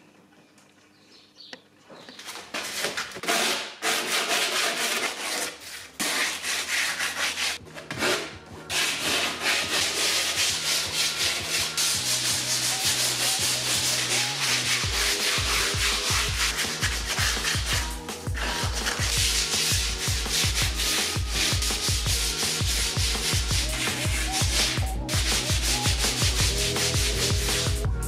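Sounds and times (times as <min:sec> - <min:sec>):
hand sanding fiberglass: 0:02.6 - 0:27.8.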